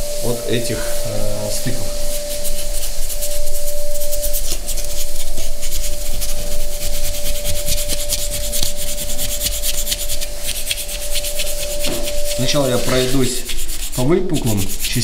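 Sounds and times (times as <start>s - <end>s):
sandpaper rubbing: 0.0s - 15.0s.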